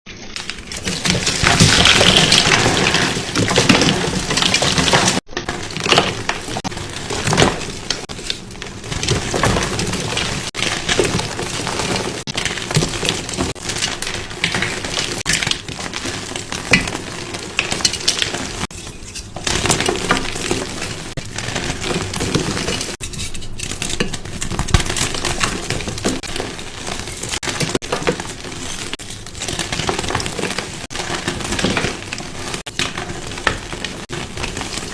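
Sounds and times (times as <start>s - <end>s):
chalk crunching and crumbling: 0.1s - 34.9s.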